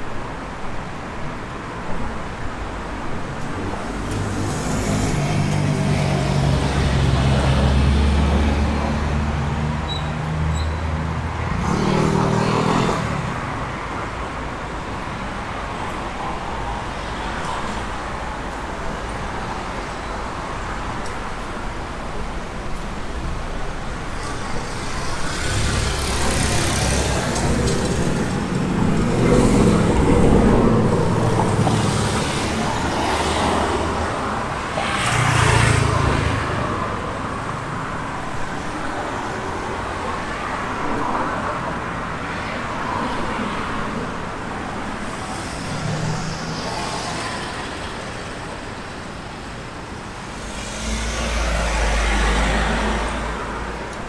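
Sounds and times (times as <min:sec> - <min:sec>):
cars passing: 0:00.0 - 0:54.0
road noise: 0:00.0 - 0:54.0.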